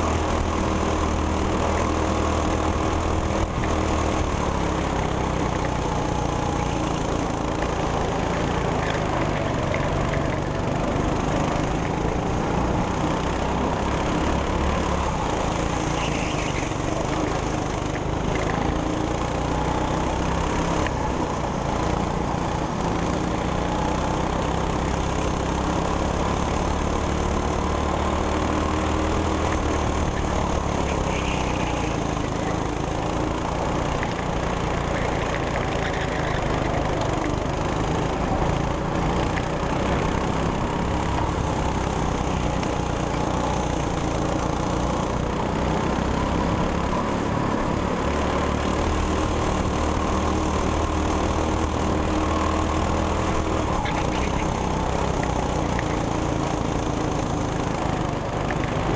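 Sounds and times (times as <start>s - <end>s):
go-kart engine running: 0.0s - 58.9s.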